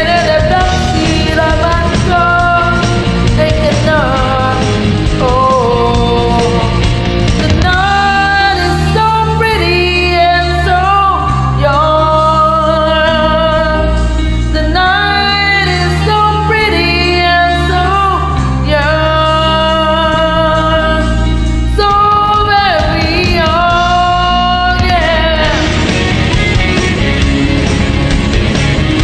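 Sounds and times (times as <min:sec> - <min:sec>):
woman singing karaoke: 0:00.0 - 0:25.9
loud backing track: 0:00.0 - 0:29.0.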